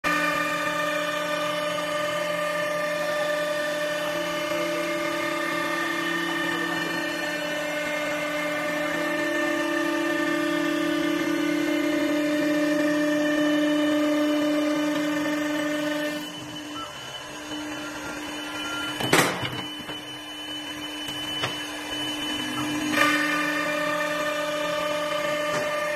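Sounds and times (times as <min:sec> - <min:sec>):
lathe motor whining: 0:00.0 - 0:25.9.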